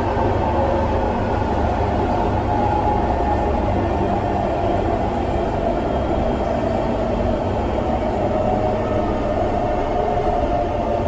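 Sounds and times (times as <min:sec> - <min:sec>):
metro train wheels rumbling: 0:00.0 - 0:11.0.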